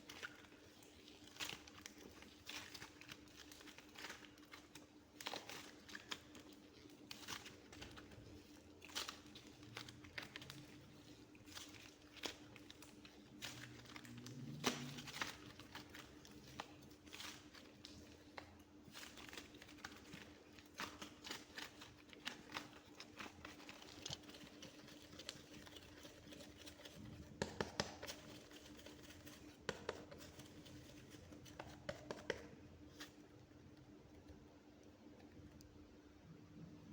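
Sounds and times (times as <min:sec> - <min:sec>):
faint steady hum: 0:00.0 - 0:36.9
clay crackling when pressed: 0:03.8 - 0:34.4.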